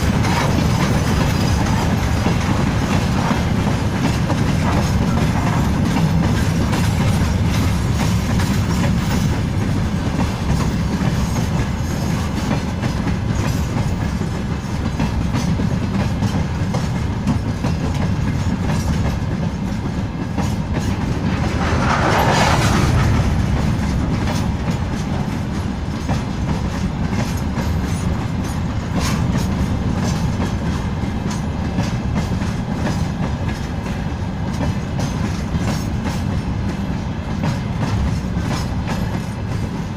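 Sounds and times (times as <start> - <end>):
freight wagons rumbling: 0.0 - 34.0
wheels clacking over rail joints: 0.0 - 39.9.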